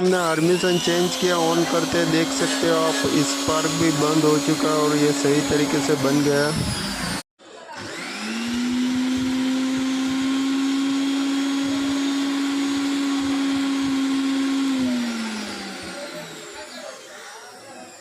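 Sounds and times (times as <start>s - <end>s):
mixer grinder motor whine: 0.0s - 18.0s.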